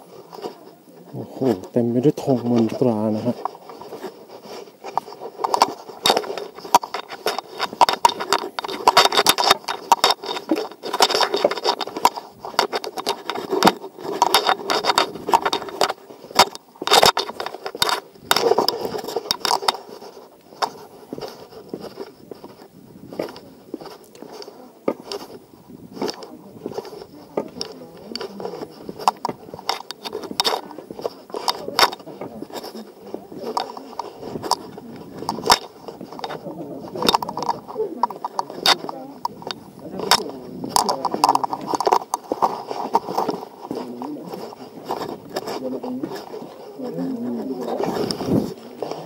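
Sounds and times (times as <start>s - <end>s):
clothing and gear rustling: 0.0s - 49.0s
footsteps on stone path: 0.0s - 49.0s.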